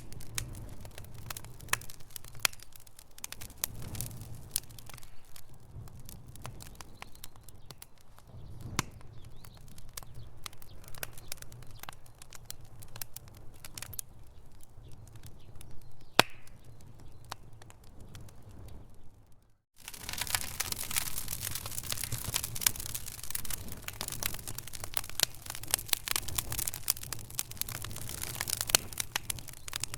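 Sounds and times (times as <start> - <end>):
low rumble of flames: 0.0 - 29.9
wood fire crackling: 0.0 - 29.9.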